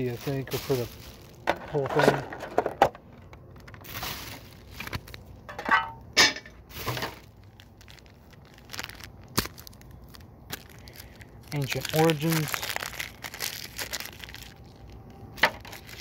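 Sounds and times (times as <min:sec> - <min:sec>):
foil wrappers crinkling: 0:00.0 - 0:02.8, 0:03.5 - 0:05.5, 0:06.6 - 0:16.0.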